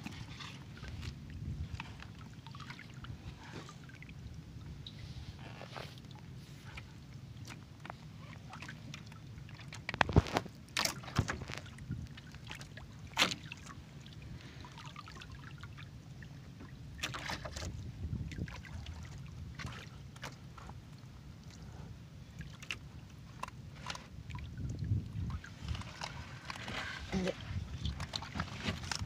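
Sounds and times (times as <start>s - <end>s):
boat engine low rumble: 0.0s - 29.0s.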